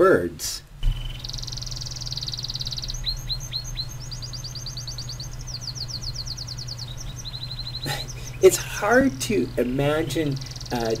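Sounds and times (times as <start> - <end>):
steady low hum: 0.0 - 11.0
canary singing: 0.8 - 11.0.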